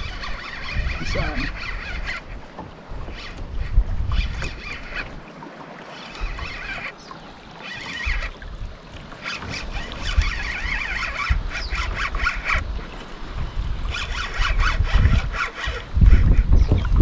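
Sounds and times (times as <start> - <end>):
fishing reel squealing and clicking: 0.0 - 2.4, 3.0 - 5.2, 5.9 - 8.4, 9.1 - 12.7, 13.9 - 17.0.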